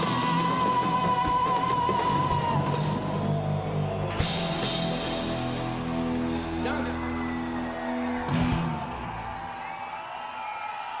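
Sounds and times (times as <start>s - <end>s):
concert audience cheering: 0.0s - 11.0s.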